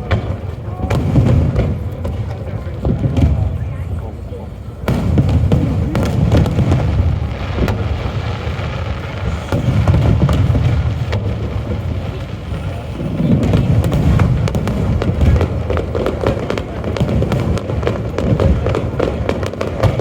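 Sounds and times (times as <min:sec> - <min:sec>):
fireworks booming: 0:00.0 - 0:20.0
fireworks cracking and banging: 0:00.0 - 0:20.0.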